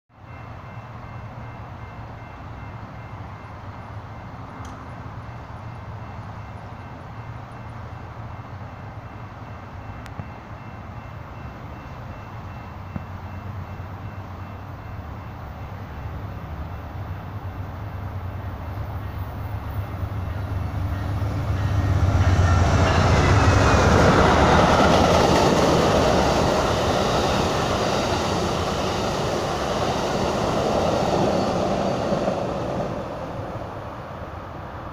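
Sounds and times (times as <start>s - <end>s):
diesel train rumble: 2.5s - 34.9s.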